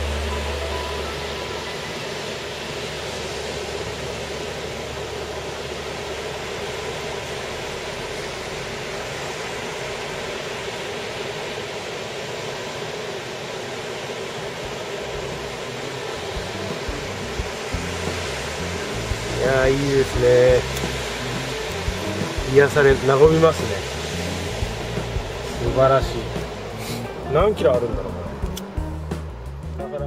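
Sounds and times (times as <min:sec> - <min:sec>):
surf breaking on sandy beach: 0:00.0 - 0:30.0.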